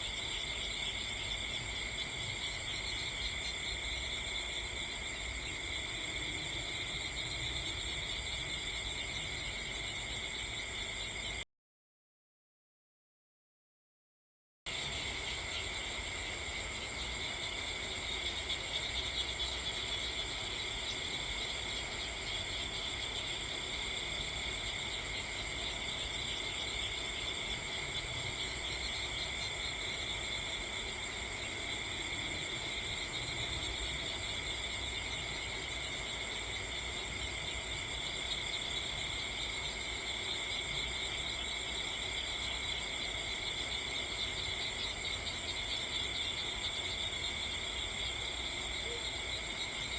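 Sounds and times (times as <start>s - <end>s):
crickets chirring: 0.0s - 11.4s, 14.7s - 49.9s.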